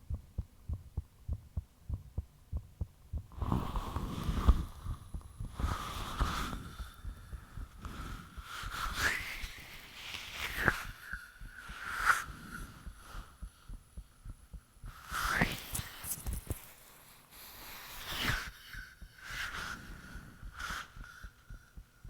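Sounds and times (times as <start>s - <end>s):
heartbeat thuds: 0.0s - 16.6s, 18.2s - 22.0s.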